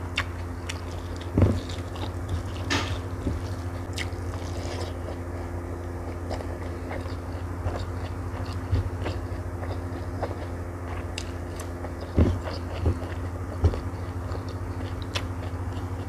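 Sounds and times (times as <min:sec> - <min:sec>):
steady low hum: 0:00.0 - 0:16.0
person chewing with mouth clicks: 0:00.1 - 0:16.0.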